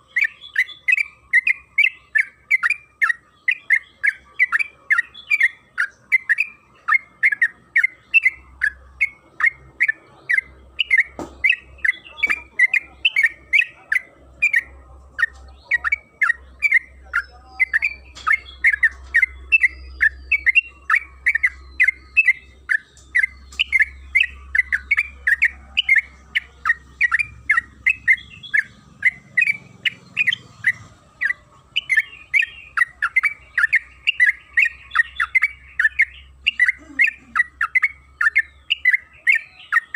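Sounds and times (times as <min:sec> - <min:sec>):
bulbul singing quick chirps: 0:00.0 - 0:39.9.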